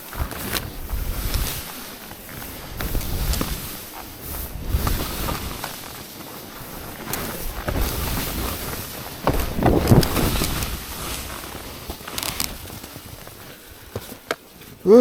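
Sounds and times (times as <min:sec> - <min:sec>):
wind buffeting microphone: 0:00.0 - 0:12.7
skis scraping through snow: 0:00.0 - 0:14.9.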